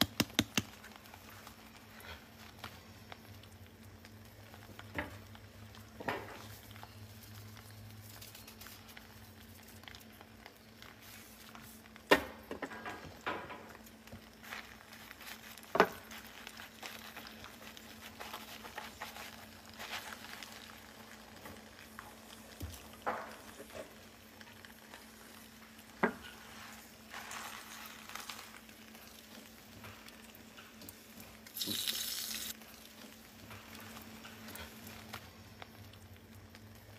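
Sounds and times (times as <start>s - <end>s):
liquid sizzling in a frying pan: 0.0s - 36.9s.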